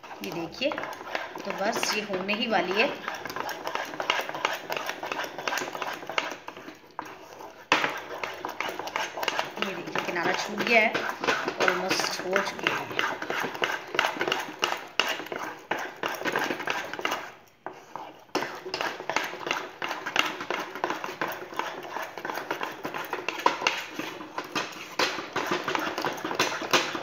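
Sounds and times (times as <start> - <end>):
spatula scraping batter in pan: 0.0 - 27.0.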